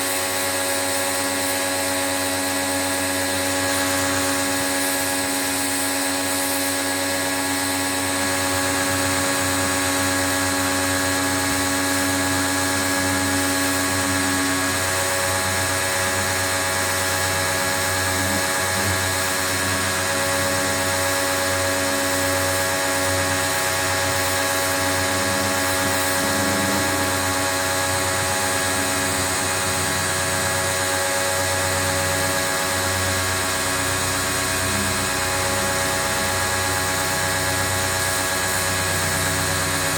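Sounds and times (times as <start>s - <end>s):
pressure washer hiss: 0.0s - 39.9s
pressure washer motor hum: 0.0s - 39.9s.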